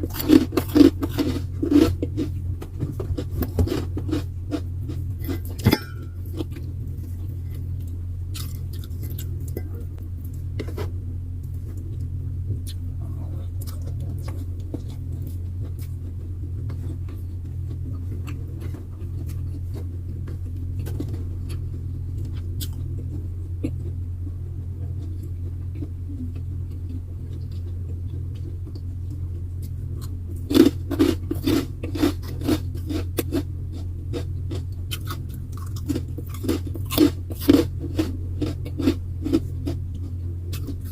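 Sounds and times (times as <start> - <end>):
crunchy chewing and biting: 0.0 - 40.9
steady low hum: 0.0 - 40.9.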